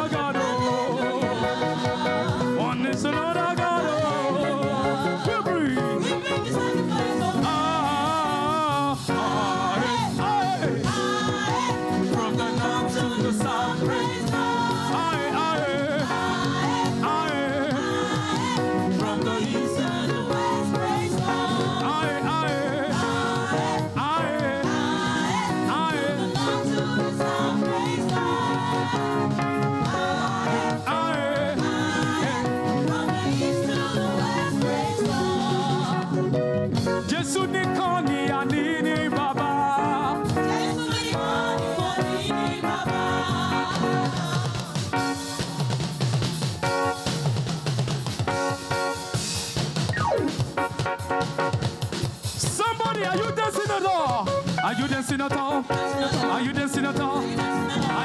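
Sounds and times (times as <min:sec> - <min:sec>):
voices singing with vibrato: 0:00.0 - 0:47.9, 0:52.4 - 0:58.0
band accompaniment: 0:00.0 - 0:58.0.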